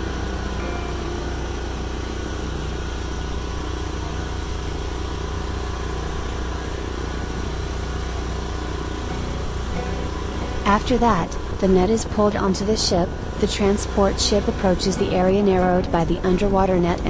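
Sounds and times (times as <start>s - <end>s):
boat engines and machinery drone: 0.0s - 17.0s.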